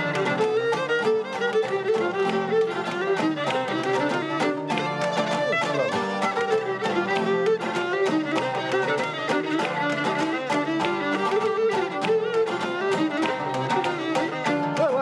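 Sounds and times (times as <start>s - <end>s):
bowed string melody: 0.0s - 15.0s
strummed lute accompaniment: 0.0s - 15.0s.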